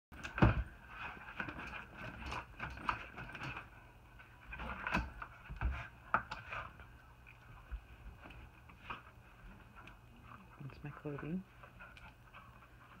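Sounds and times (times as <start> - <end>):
small clicks and bumps: 0.1 - 13.0.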